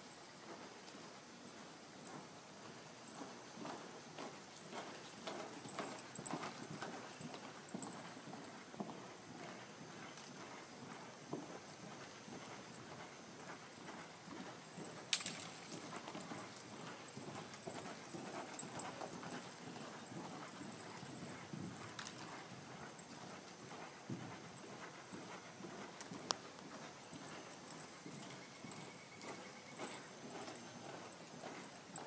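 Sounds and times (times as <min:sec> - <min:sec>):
muffled hoofbeats on dirt: 0:00.0 - 0:32.0.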